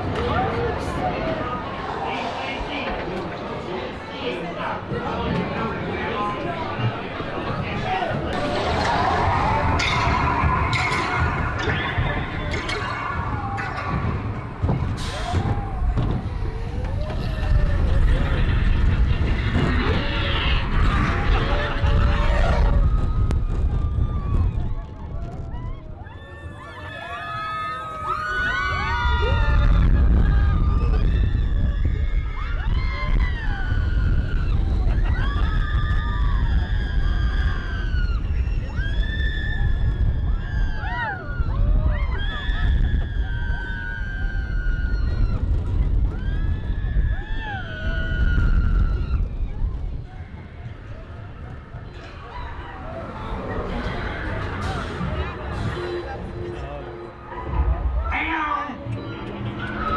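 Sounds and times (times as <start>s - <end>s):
roller coaster rumbling on track: 0.0s - 59.9s.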